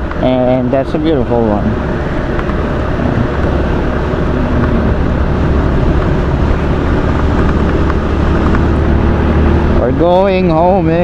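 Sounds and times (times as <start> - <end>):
motorcycle engine hum: 0.0 - 11.0
road noise: 0.0 - 11.0
wind rush: 1.0 - 11.0.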